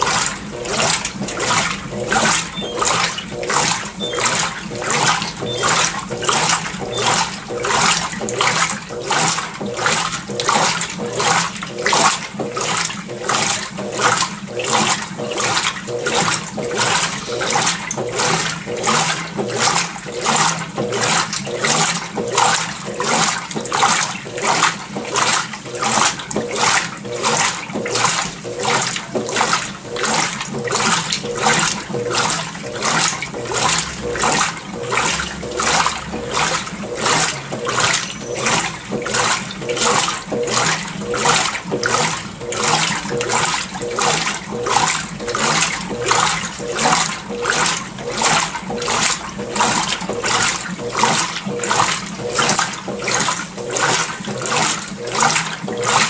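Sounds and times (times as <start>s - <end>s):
faint motor hum: 0.0s - 56.0s
washing machine agitator swishing: 0.0s - 56.0s.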